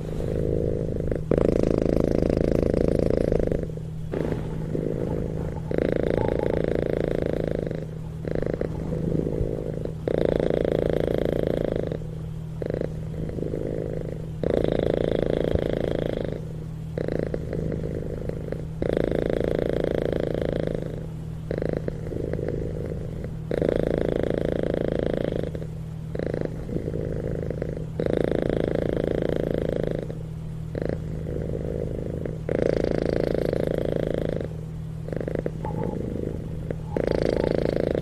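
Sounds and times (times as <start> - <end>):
kitten purring: 0.0 - 38.0.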